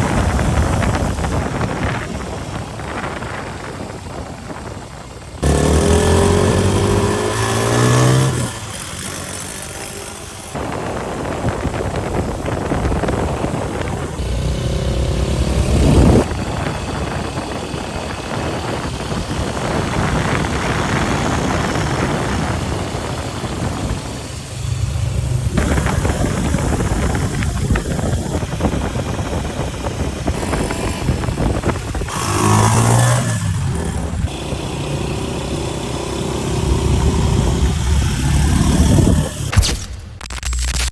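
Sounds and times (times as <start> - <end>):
motorcycle engine revving: 0.0 - 39.6.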